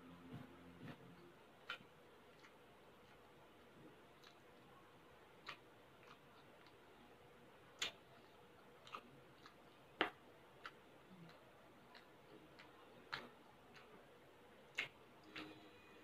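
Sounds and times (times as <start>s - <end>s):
mouth clicks and smacks: 0.8s - 4.7s, 5.3s - 7.0s, 7.7s - 15.5s.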